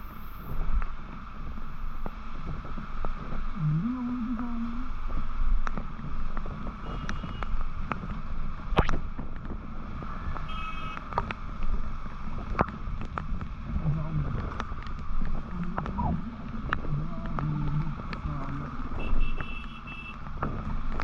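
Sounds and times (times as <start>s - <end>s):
motorcycle engine hum: 0.0s - 21.0s
road and wind rush: 0.0s - 21.0s.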